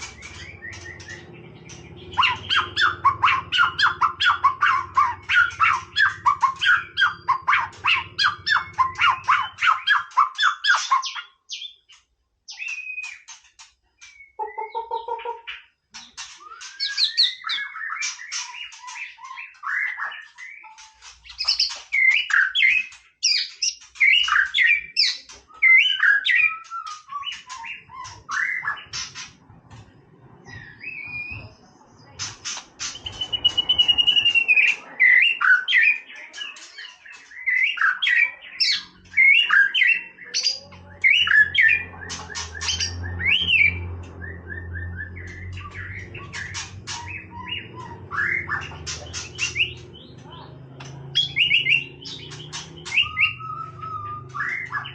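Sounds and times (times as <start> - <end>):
bird singing: 0.0 - 54.9.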